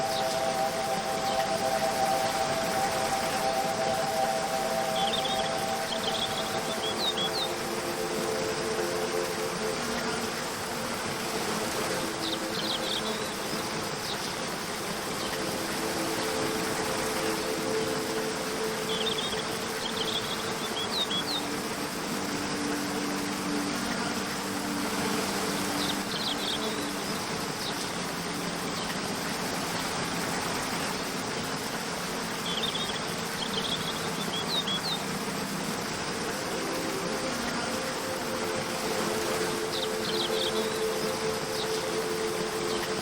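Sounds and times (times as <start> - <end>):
soft ambient music: 0.0 - 43.0
waterfall rushing: 0.0 - 43.0.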